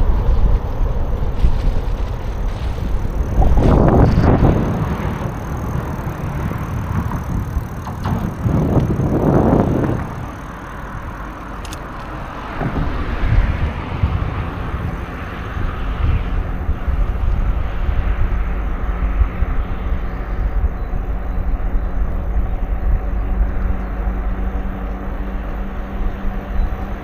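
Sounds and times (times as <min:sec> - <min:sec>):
wind on microphone: 0:00.0 - 0:24.6
bicycle rolling: 0:00.0 - 0:27.0.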